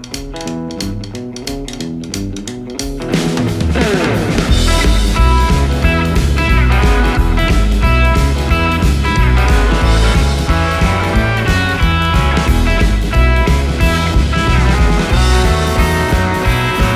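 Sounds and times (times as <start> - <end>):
guitar-led rock music: 0.0 - 16.9.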